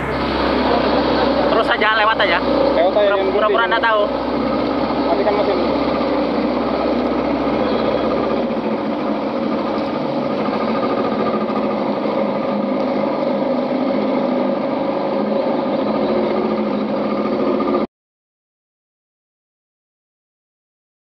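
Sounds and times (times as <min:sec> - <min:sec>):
boat motor running: 0:00.0 - 0:17.9.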